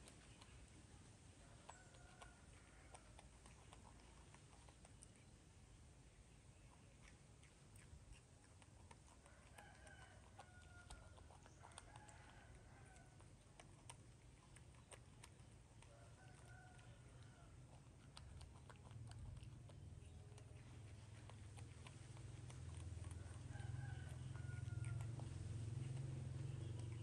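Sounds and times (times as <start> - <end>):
faint chicken clucking: 0.0 - 27.0.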